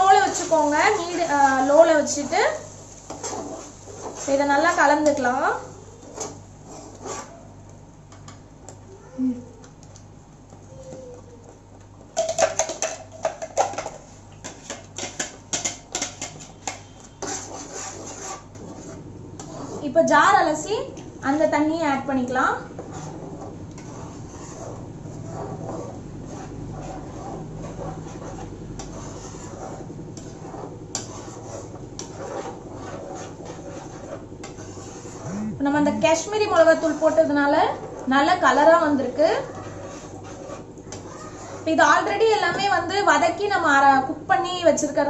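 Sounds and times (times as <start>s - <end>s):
spoon scraping a pan: 0.0s - 7.5s, 12.2s - 43.6s.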